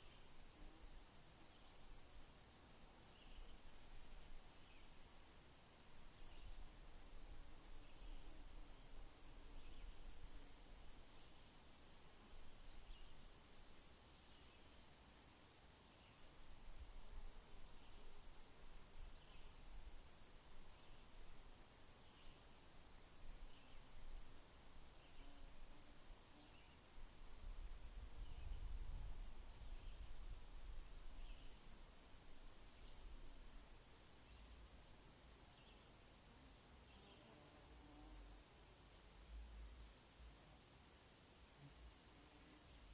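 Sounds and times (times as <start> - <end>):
lower insect chirp: 0.0 - 42.9.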